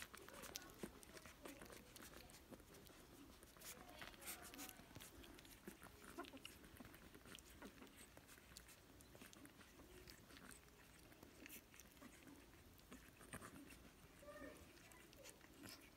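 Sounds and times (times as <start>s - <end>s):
puppy squeaking softly: 0.0s - 15.9s
small clicks and rustles: 0.0s - 15.9s.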